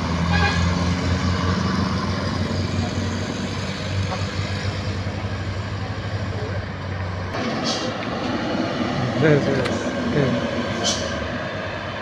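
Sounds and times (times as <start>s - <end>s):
road noise: 0.0s - 12.0s
truck engine throbbing: 0.0s - 12.0s.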